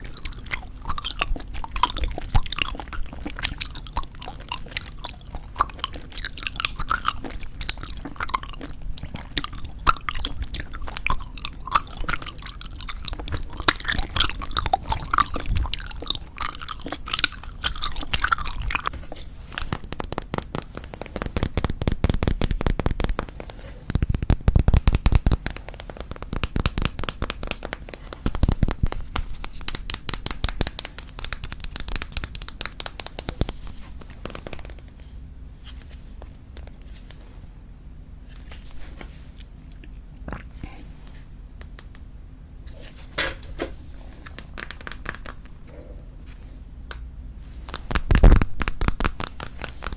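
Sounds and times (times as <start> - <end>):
bubblegum chewing: 0.0 - 34.9, 39.2 - 40.8, 44.3 - 46.4, 47.5 - 49.9.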